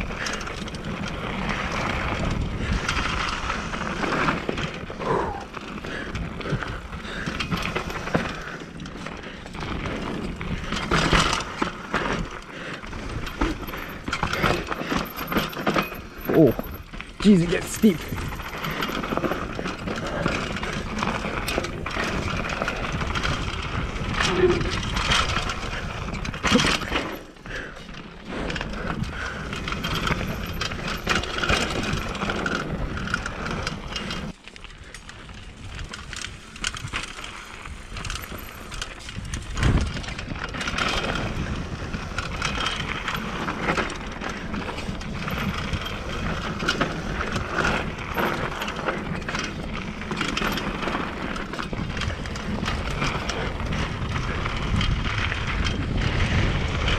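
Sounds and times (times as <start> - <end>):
bike rattling and knocking: 0.0 - 56.9
tyres rolling over dirt and rocks: 0.0 - 56.9.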